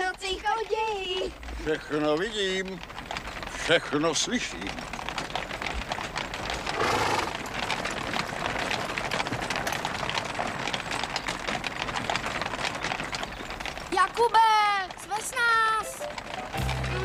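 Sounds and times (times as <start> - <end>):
horse hooves clip-clopping: 0.0 - 17.0
wooden cart clattering: 0.0 - 17.0.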